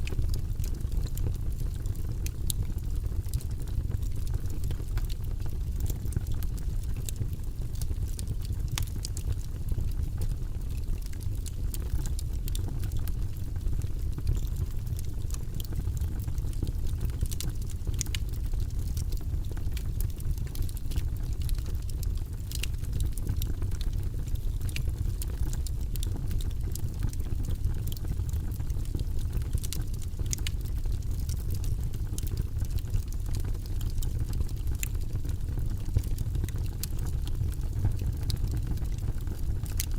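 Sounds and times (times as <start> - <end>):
fire rumbling: 0.0 - 39.9
wood crackling and popping: 0.0 - 39.9.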